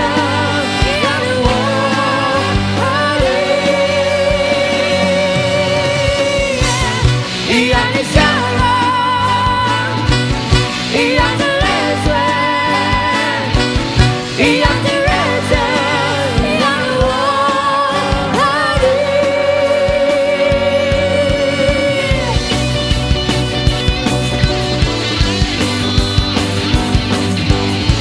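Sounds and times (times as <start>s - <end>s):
pop song with singing: 0.0s - 22.7s.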